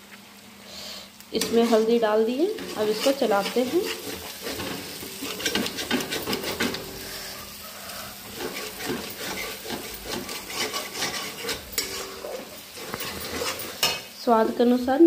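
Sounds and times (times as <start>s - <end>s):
oil sizzling: 0.0s - 15.0s
metal spatula scraping pan: 1.4s - 14.6s.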